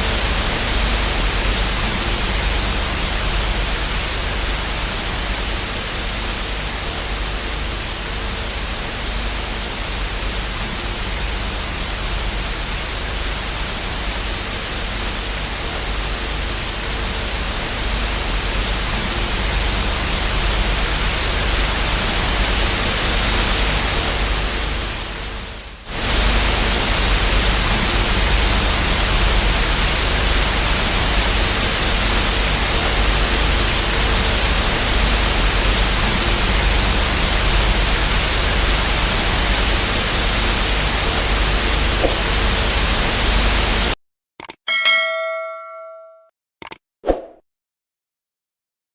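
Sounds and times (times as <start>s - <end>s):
television static hiss: 0.0s - 44.0s.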